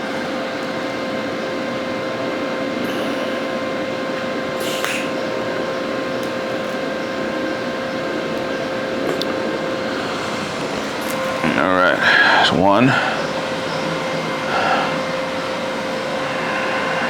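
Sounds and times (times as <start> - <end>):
welding machine humming: 0.0 - 17.0.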